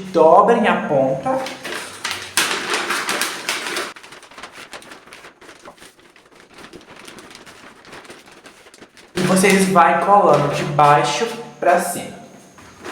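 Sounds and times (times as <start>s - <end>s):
paper crinkling and rustling: 1.3s - 12.9s.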